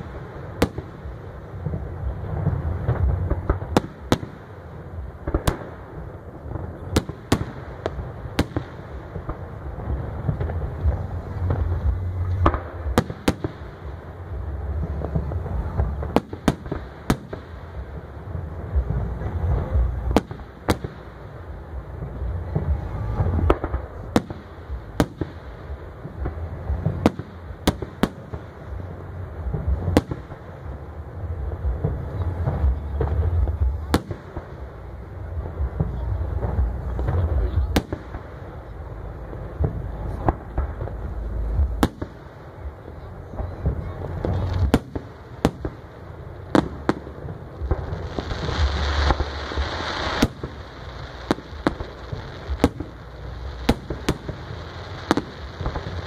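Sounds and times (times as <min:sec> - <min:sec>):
fireworks bangs: 0:00.0 - 0:56.0
deep rolling booms: 0:05.0 - 0:56.0.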